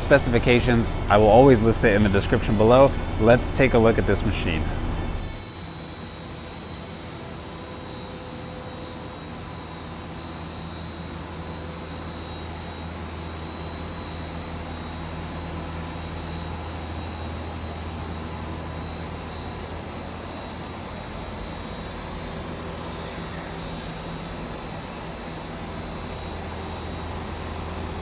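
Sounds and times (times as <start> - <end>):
idle machine hum with high hiss: 0.0 - 28.0.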